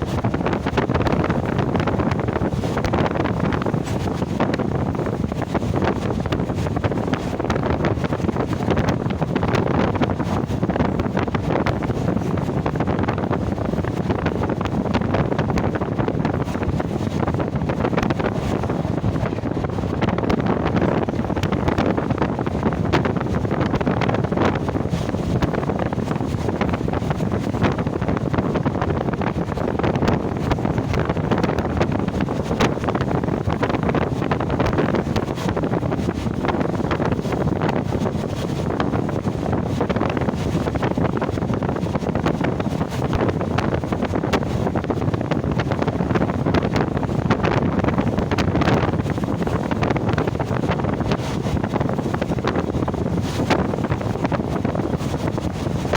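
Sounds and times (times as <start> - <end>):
moving train rumble: 0.0 - 55.9
wind buffeting microphone: 0.0 - 55.9.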